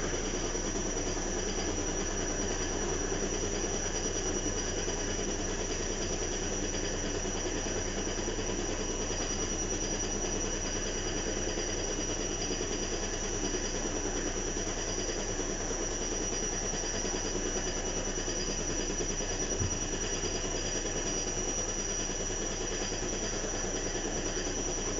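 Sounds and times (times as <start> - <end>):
washing machine humming: 0.0 - 24.9.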